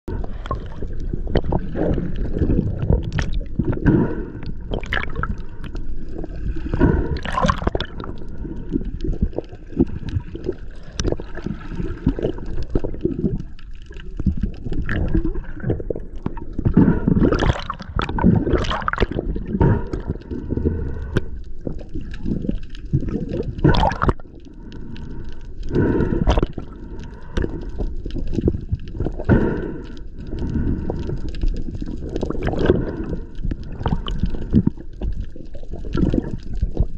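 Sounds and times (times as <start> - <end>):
water swishes: 0.0 - 36.9
bubbly gurgles: 0.1 - 25.1, 25.7 - 36.9
underwater water rush: 0.1 - 36.9.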